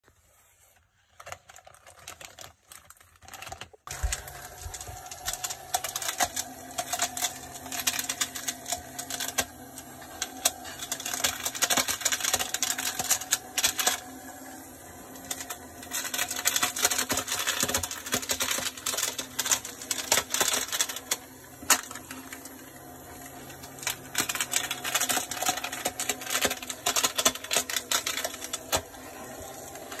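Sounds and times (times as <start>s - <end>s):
foam rattling inside plastic bottle: 1.0s - 9.6s, 10.2s - 14.0s, 15.2s - 22.4s, 23.4s - 29.0s
small motor and fan whirring: 2.9s - 30.0s.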